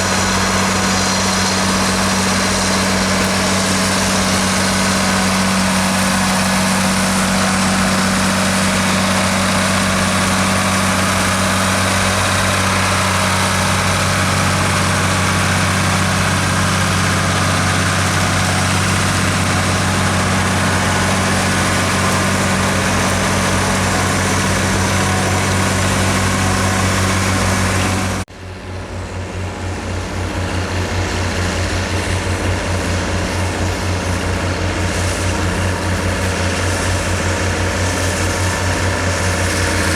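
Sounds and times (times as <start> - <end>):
diesel tractor engine humming: 0.0 - 39.9
engine with pulsing chug: 0.0 - 39.9.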